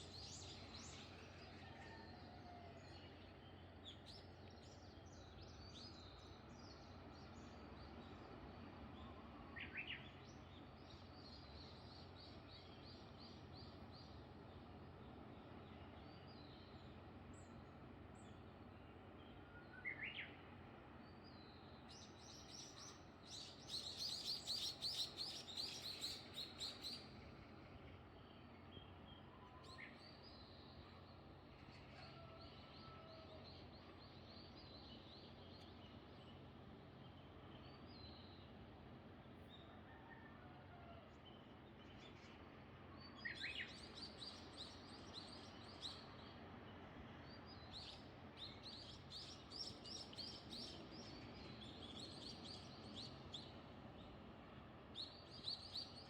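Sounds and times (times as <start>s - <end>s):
low background hiss: 0.0s - 56.0s.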